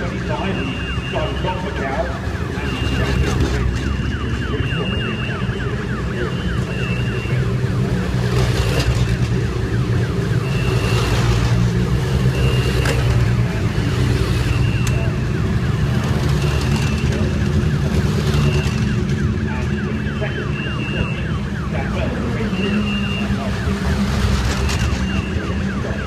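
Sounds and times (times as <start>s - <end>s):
high beeping tone: 0.0s - 26.0s
racing car engines at low speed: 0.0s - 26.0s.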